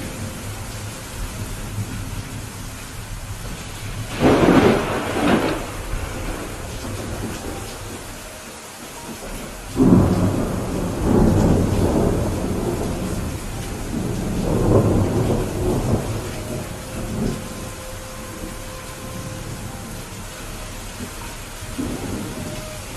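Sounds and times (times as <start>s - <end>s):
thunder crack and rumble: 0.0s - 8.2s, 9.1s - 22.9s
steady rain: 0.0s - 22.9s.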